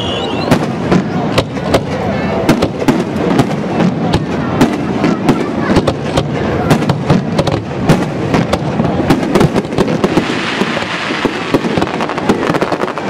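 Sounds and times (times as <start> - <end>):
fireworks bursting and cracking: 0.0 - 13.0
hiss of rising fireworks: 0.0 - 13.0.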